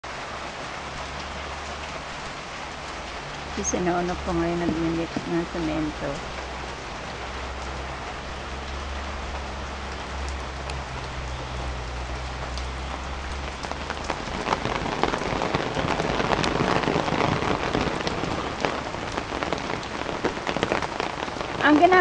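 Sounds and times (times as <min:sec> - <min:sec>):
rain pattering on concrete: 0:00.0 - 0:22.0.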